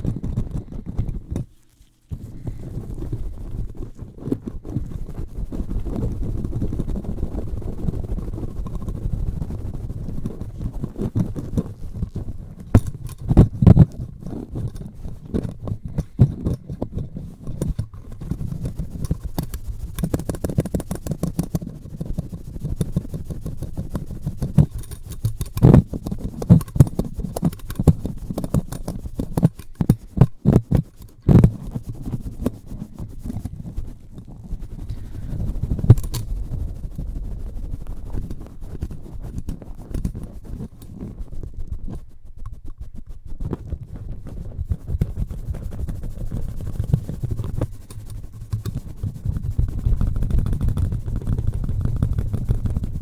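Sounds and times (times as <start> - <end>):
rubbing on a microphone: 0.0 - 53.0.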